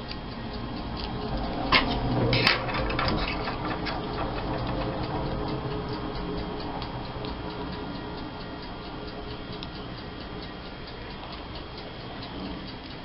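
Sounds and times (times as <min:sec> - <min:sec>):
steady ticking: 0:00.0 - 0:13.0.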